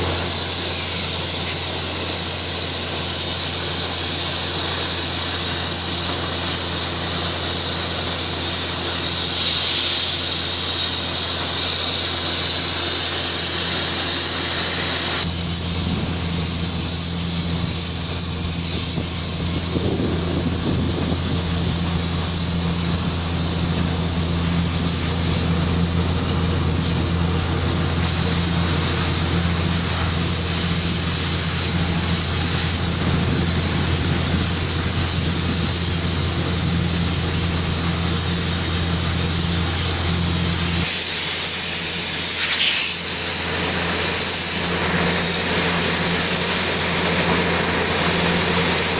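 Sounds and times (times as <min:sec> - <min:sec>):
engine and compressor drone: 0:00.0 - 0:48.9
steady high hiss: 0:00.0 - 0:48.9.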